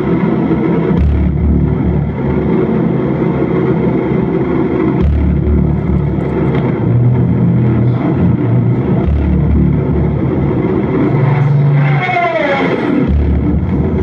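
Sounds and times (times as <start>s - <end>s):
deep bass swells: 0.0s - 14.0s
loud electronic noise drone: 0.0s - 14.0s.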